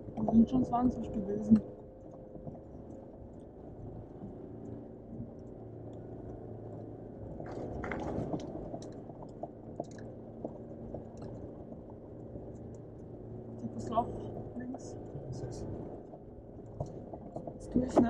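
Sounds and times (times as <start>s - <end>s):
car engine running at low revs: 0.0s - 18.0s
small clicks and creaks: 0.0s - 18.0s.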